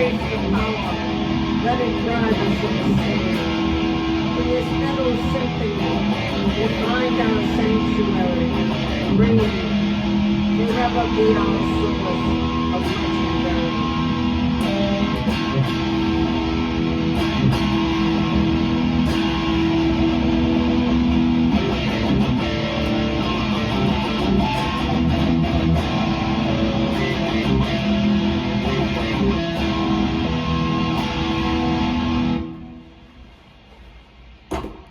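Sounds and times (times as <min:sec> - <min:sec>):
heavy metal instrumental: 0:00.0 - 0:32.6
distorted electric guitar: 0:00.0 - 0:34.9.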